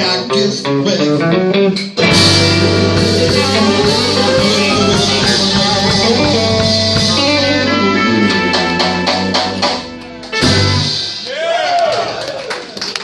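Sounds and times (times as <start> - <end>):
live blues band playing: 0.0 - 11.3.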